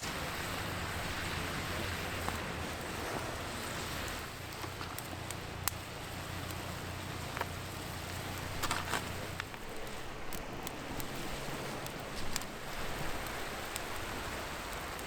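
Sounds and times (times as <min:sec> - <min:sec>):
campfire crackling: 0:00.0 - 0:15.0
food sizzling: 0:00.0 - 0:15.0.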